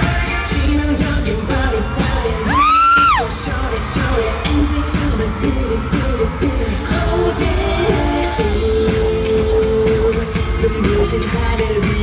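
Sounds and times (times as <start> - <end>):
pop song over sound system: 0.0 - 12.0.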